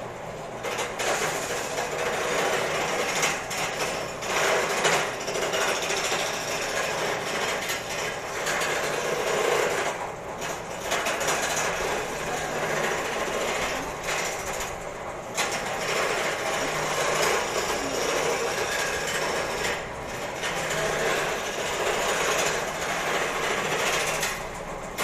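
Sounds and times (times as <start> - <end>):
wood lathe cutting: 0.6 - 24.4.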